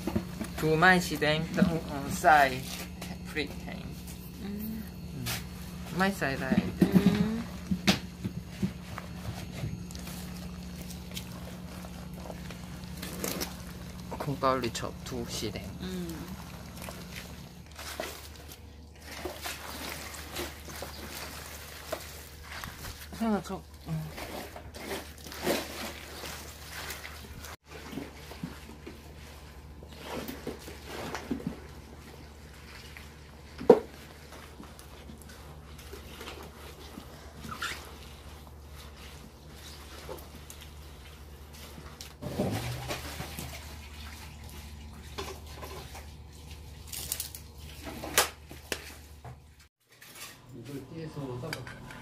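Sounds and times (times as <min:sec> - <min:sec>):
steady low hum: 0:00.0 - 0:49.6
wet leaves rustling and squelching: 0:00.0 - 0:51.3
water running: 0:04.9 - 0:24.4, 0:25.1 - 0:49.3.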